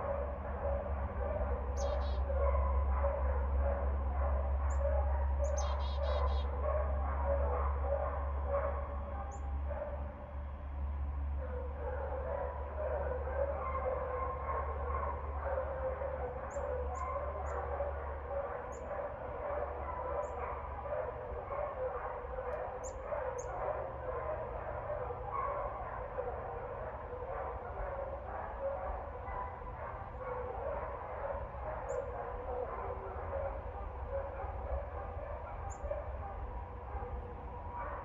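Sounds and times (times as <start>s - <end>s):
dogs barking: 0.0s - 38.0s.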